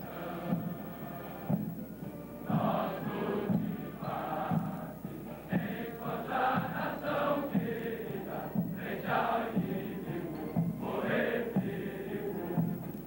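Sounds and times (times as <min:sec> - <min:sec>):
voices singing in unison: 0:00.0 - 0:13.0.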